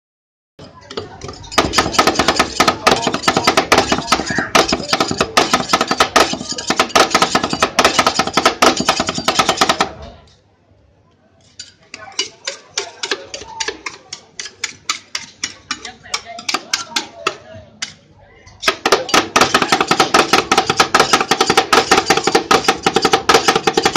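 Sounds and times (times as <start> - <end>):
metal spatulas chopping on steel: 0.9 - 10.0, 11.6 - 18.0, 18.6 - 23.9.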